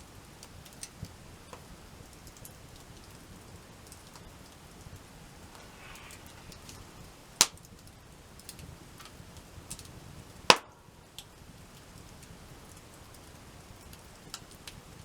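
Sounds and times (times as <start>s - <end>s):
campfire crackling: 0.0s - 15.0s
sharp fire cracks: 0.0s - 15.0s.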